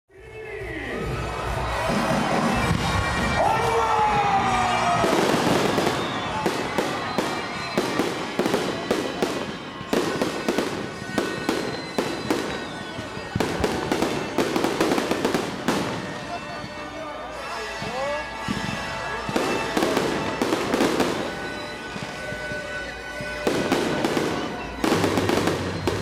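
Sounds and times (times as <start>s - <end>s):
fireworks bursting and crackling: 1.3s - 26.0s.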